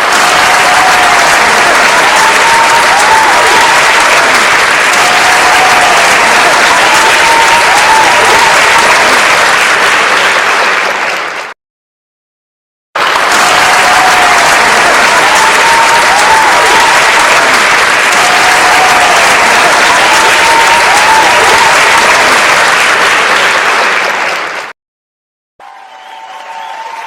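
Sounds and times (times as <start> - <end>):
crowd cheering: 0.0 - 11.6, 13.0 - 24.8, 25.6 - 27.0
crowd clapping: 0.0 - 11.6, 13.0 - 24.8, 25.6 - 27.0.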